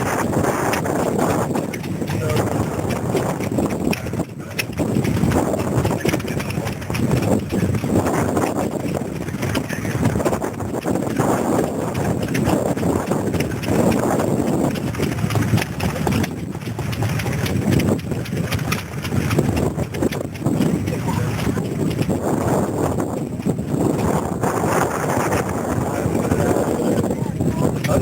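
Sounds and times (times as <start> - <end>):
stationary engines knocking and chuffing: 0.0 - 28.0.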